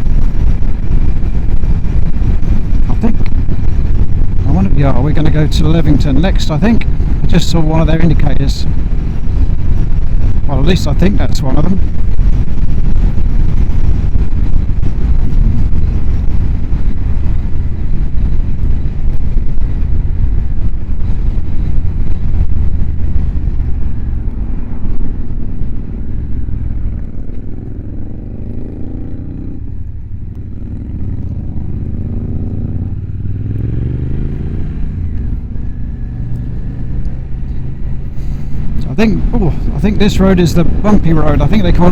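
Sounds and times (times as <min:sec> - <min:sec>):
motorcycle engine: 0:00.0 - 0:41.9
wind buffeting microphone: 0:00.0 - 0:41.9.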